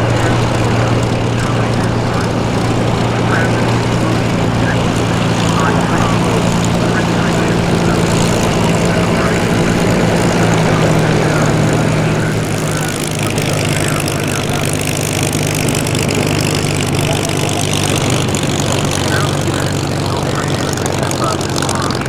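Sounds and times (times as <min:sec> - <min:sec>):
propeller aircraft droning overhead: 0:00.0 - 0:22.0.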